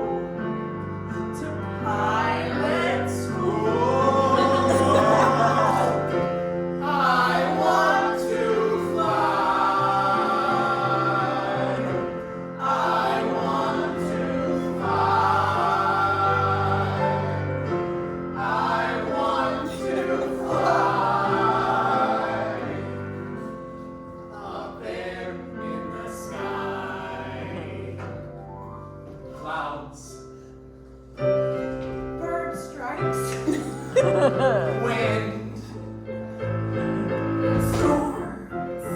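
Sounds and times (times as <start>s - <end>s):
voices singing in harmony: 0.0s - 30.3s, 33.2s - 38.9s.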